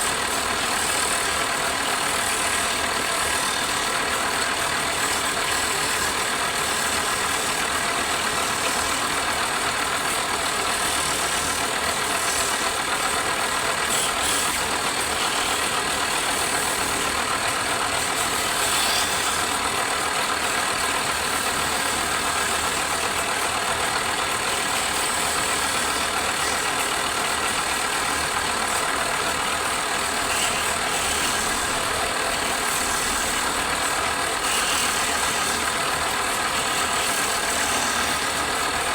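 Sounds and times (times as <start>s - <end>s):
wood lathe motor whining: 0.0s - 38.9s.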